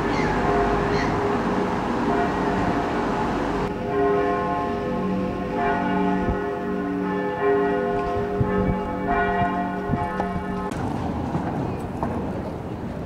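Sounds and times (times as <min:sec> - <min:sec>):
church bells ringing: 0:00.0 - 0:10.8.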